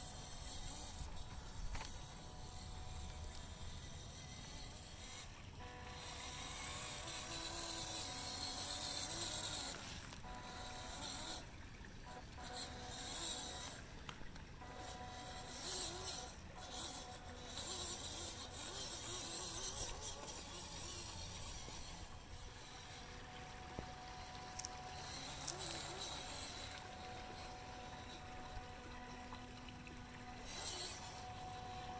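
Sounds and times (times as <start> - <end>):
toy motor and gears whining: 0.0 - 31.9
water and wet tyres on rock: 0.0 - 31.9.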